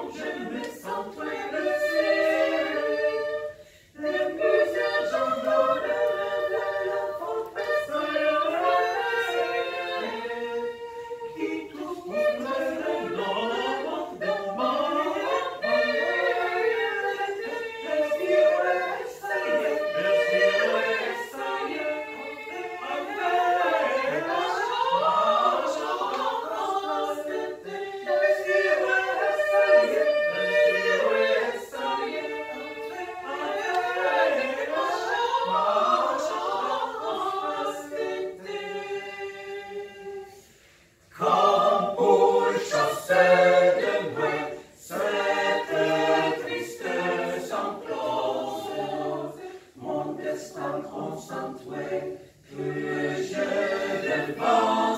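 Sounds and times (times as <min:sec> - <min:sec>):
mixed choir singing a cappella: 0:00.0 - 0:54.9.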